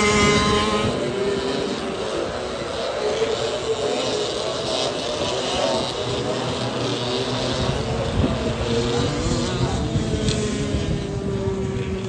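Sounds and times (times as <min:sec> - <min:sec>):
kart engines buzzing: 0:00.0 - 0:12.0.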